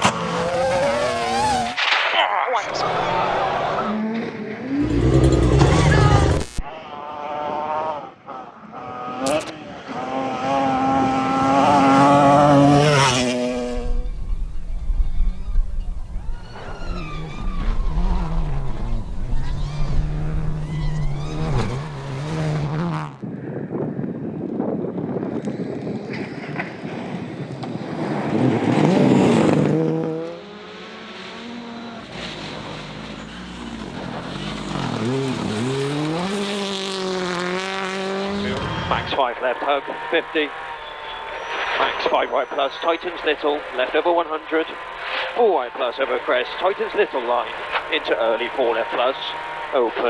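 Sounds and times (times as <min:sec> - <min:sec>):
rally car engines revving: 0:00.0 - 0:02.0, 0:02.6 - 0:23.2, 0:25.7 - 0:50.0.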